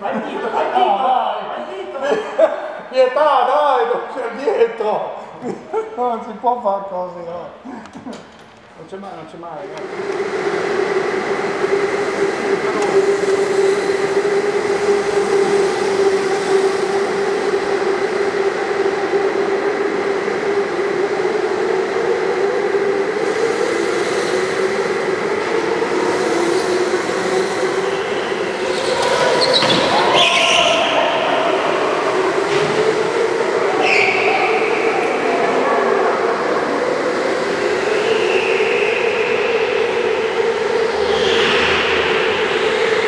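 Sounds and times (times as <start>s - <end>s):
go-kart engines running: 7.6s - 43.0s.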